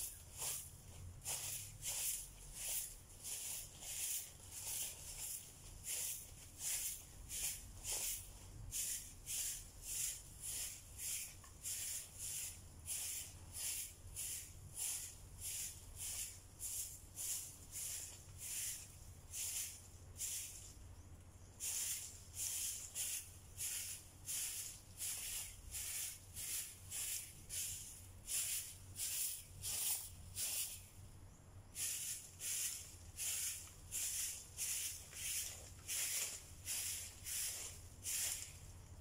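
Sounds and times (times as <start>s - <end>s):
stick broom sweeping earth: 0.0s - 31.0s, 31.6s - 39.0s.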